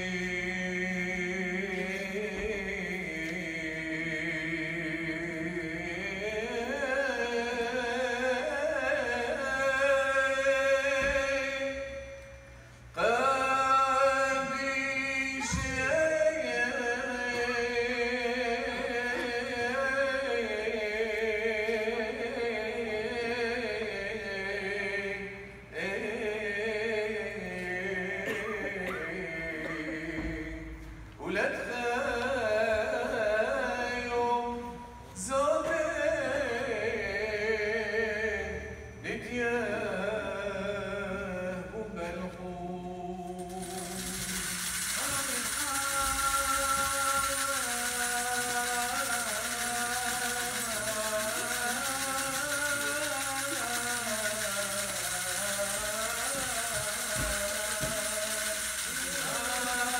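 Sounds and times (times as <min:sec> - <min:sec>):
liturgical chant: 0:00.0 - 0:59.9.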